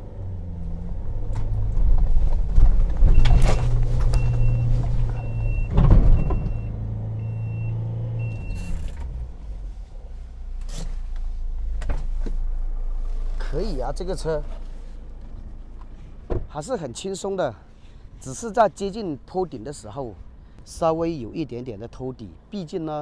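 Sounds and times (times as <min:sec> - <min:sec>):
diesel engine climbing: 0:00.0 - 0:23.0.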